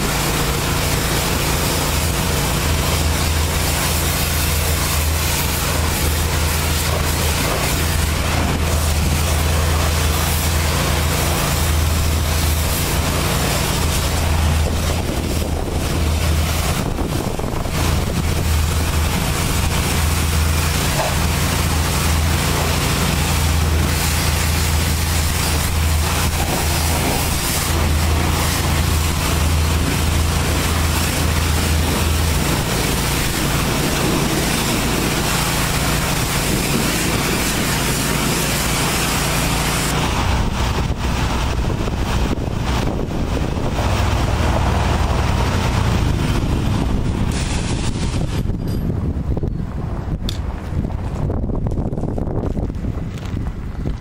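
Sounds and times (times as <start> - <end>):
high-pressure water spray: 0.0 - 49.1
low machine hum: 0.0 - 54.0.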